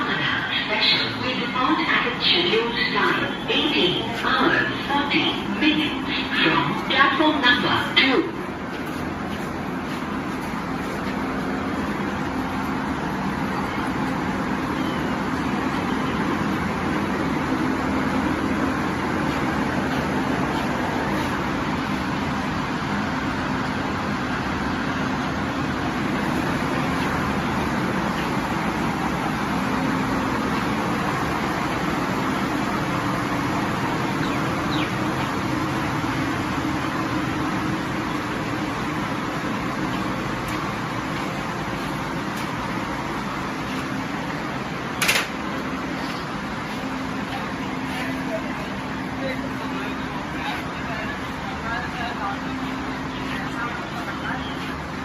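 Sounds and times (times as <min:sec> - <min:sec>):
busy station platform din: 0:00.0 - 0:55.0.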